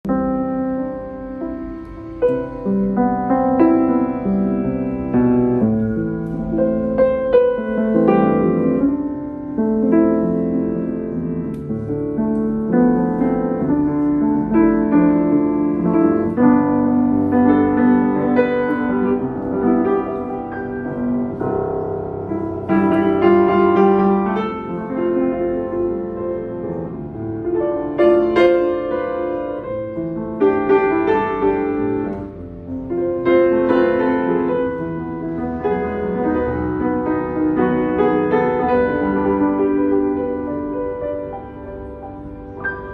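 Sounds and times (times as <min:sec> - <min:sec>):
upright piano playing: 0:00.0 - 0:42.9.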